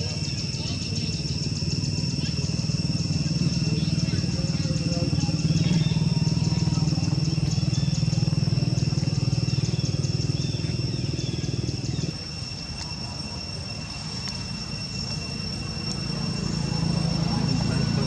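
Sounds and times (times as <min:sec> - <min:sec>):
high-pitched insect whine: 0:00.0 - 0:18.0
vehicle engine droning: 0:00.0 - 0:18.0.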